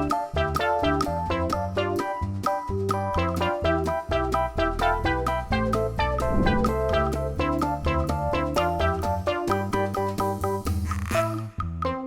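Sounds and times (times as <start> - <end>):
bouncy keyboard tune with bass: 0.0 - 12.0.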